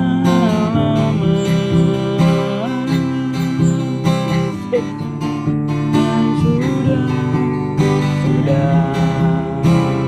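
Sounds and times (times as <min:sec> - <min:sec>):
person singing ballad: 0:00.0 - 0:10.0
strummed acoustic guitar: 0:00.0 - 0:10.0.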